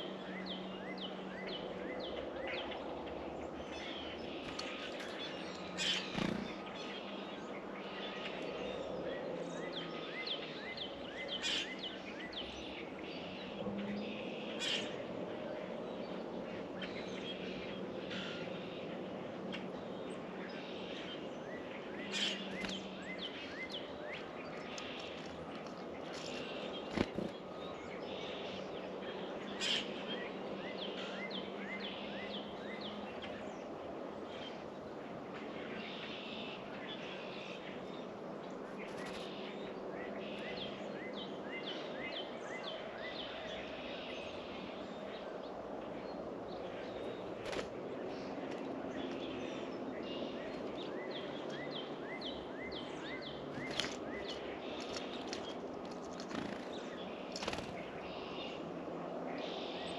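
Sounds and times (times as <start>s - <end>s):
small birds chirping: 0.0s - 15.0s, 16.0s - 33.7s, 35.6s - 58.6s
outdoor background noise: 0.0s - 59.9s.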